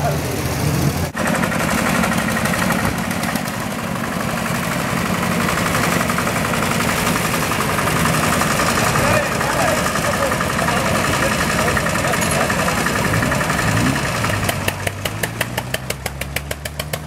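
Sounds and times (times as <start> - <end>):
tractor engines running: 0.0 - 17.0.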